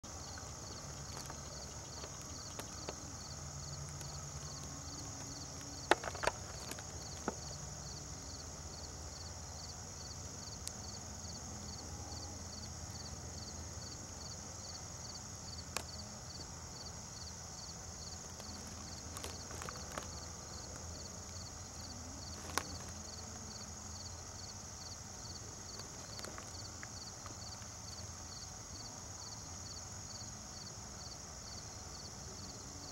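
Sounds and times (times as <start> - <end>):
steady high hiss: 0.0 - 32.9.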